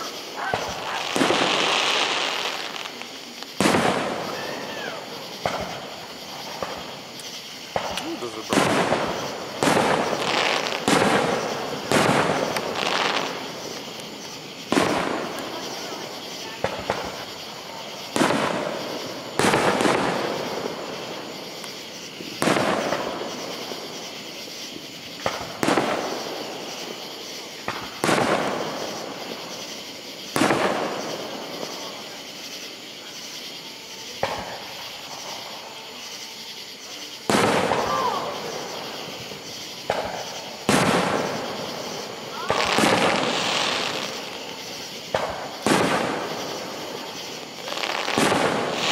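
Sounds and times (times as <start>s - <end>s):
firework shells bursting: 0.0s - 32.9s, 37.2s - 48.9s.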